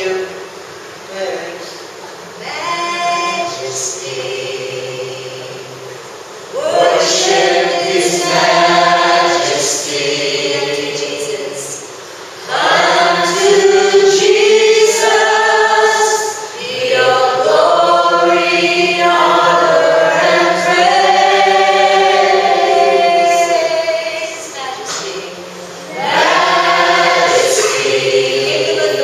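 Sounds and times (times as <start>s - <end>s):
group singing a worship song: 1.7s - 29.0s.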